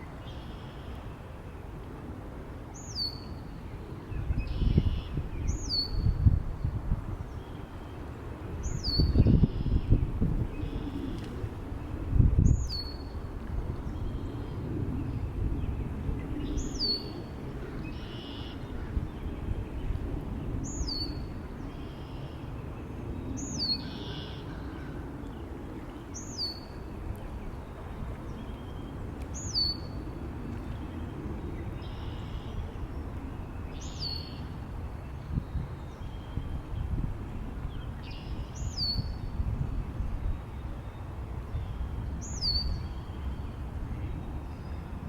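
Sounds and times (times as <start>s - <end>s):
low wind rumble: 0.0s - 45.0s.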